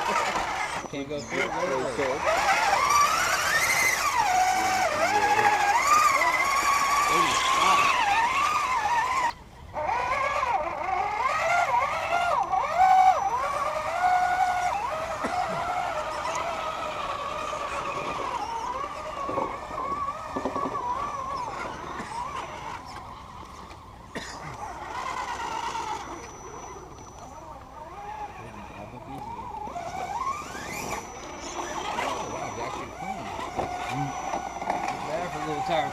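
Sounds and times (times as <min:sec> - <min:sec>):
electric motor and gearbox whine: 0:00.0 - 0:35.9.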